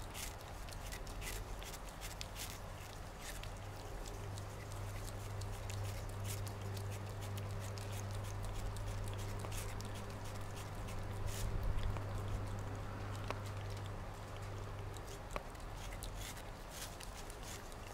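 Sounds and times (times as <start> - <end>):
cat chewing watermelon: 0.0 - 17.9.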